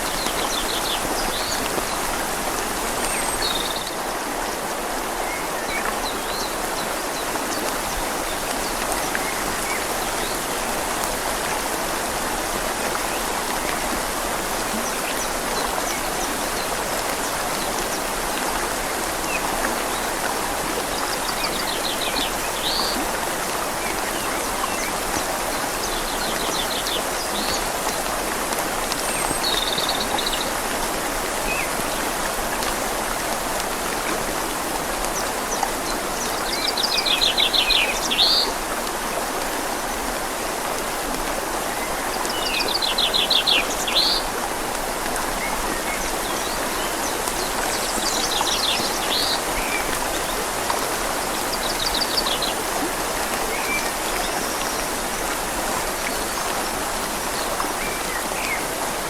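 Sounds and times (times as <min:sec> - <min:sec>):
river water flowing: 0:00.0 - 0:59.0
steady rain: 0:00.0 - 0:59.0.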